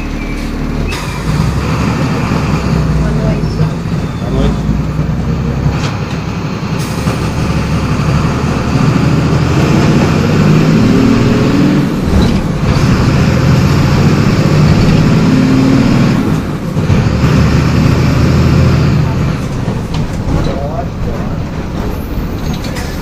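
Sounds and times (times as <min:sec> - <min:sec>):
diesel bus engine under load: 0:00.0 - 0:23.0.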